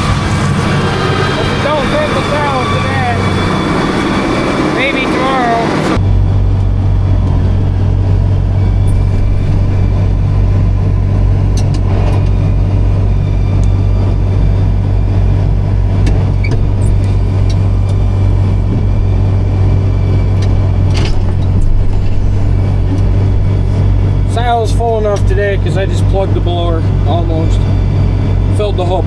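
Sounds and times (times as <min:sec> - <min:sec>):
tractor engine running under load: 0:00.0 - 0:29.0.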